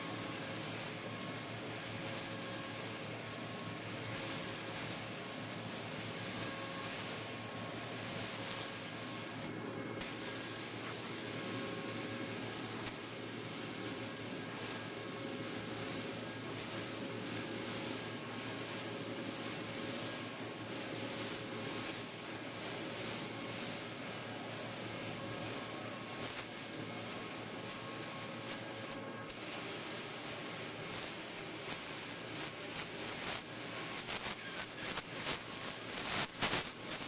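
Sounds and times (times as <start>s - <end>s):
spray gun hissing: 0.0s - 37.0s.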